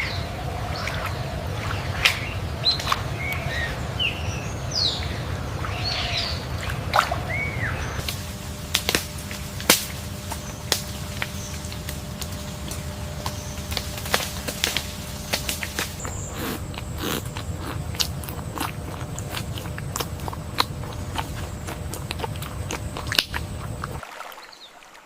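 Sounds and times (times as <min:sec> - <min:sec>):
birds chirping and whistling: 0:00.0 - 0:08.3, 0:10.1 - 0:24.6
low outdoor rumble: 0:00.0 - 0:24.0
steady hum: 0:00.0 - 0:24.0.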